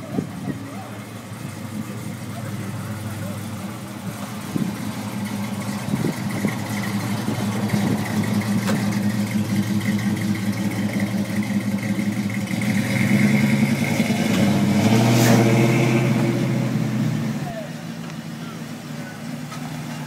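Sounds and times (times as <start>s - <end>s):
car engine rumbling and accelerating: 0.0s - 20.0s.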